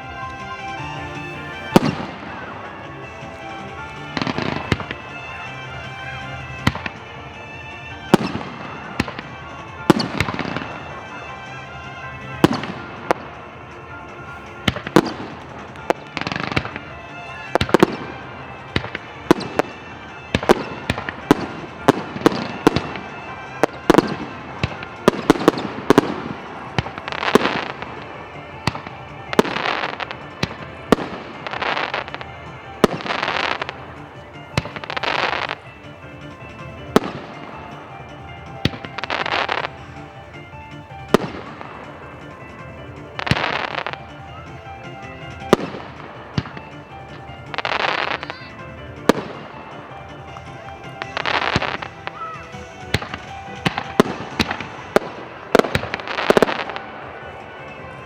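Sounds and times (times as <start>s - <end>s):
fireworks bangs: 0.0s - 58.0s
music: 0.0s - 58.0s.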